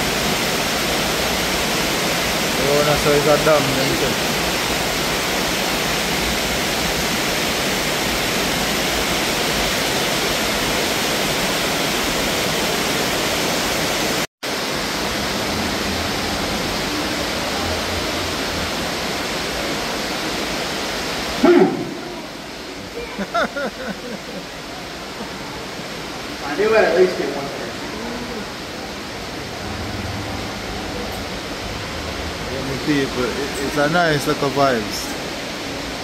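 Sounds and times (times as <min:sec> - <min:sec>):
water rushing in a cave: 0:00.0 - 0:36.0.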